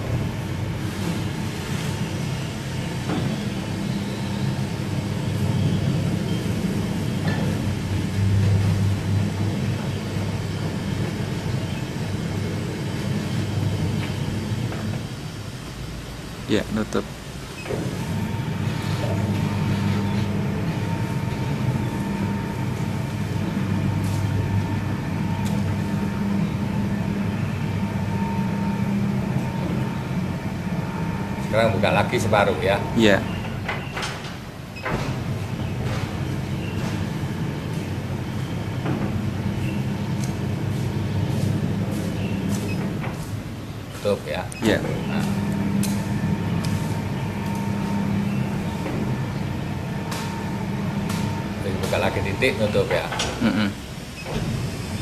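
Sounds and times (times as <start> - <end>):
gate opener mechanical rumble: 0.0 - 55.0.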